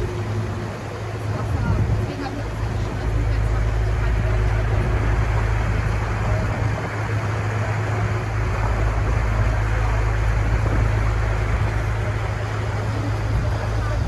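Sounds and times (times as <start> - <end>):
boat engine droning: 0.0 - 14.0
water rushing: 0.0 - 14.0
wind: 0.0 - 14.0.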